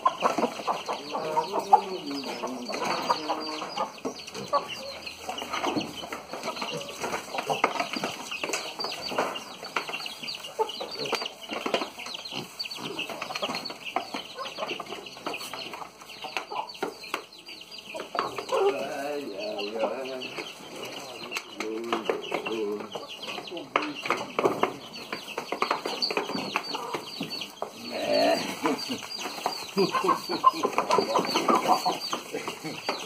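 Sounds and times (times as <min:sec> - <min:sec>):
animals pecking and chomping: 0:00.0 - 0:33.0
hens clucking: 0:00.0 - 0:33.0.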